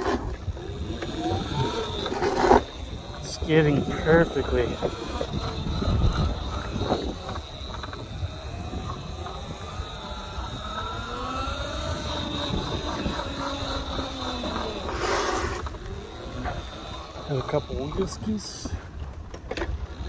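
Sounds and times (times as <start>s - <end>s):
electric motor whining: 0.0s - 20.0s
wind rumble on microphone: 0.0s - 20.0s.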